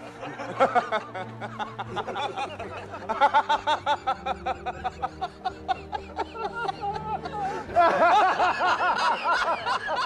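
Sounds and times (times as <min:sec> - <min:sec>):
faint music: 0:00.0 - 0:10.0
man laughing hard: 0:00.0 - 0:10.0.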